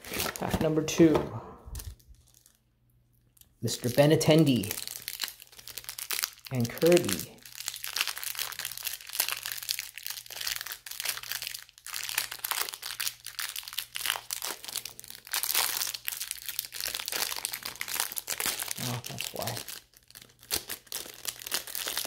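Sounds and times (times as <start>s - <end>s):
plastic wrap crinkling: 0.0s - 2.6s, 3.8s - 22.0s.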